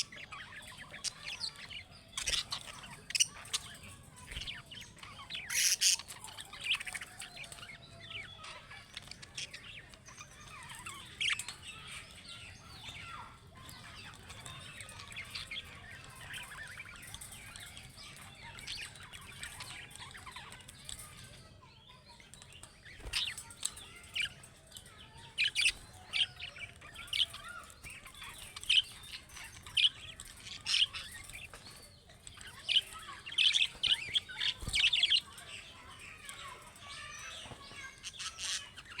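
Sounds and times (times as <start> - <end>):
budgerigars chirping and warbling: 0.0 - 39.0.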